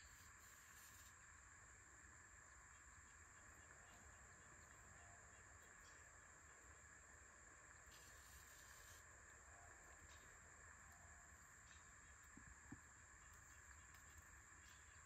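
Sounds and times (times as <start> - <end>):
faint ticks: 0.0 - 15.0
high-pitched insect drone: 0.0 - 15.0
soft hiss: 0.0 - 15.0.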